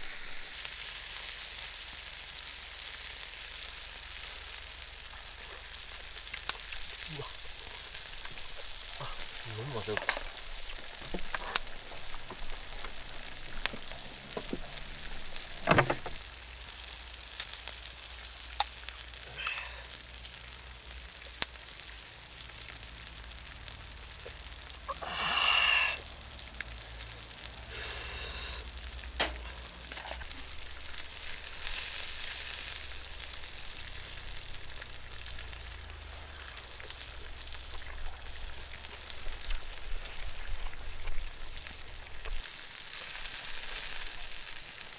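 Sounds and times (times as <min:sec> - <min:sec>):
meat sizzling: 0:00.0 - 0:44.9
small crackles and pops: 0:00.0 - 0:44.9.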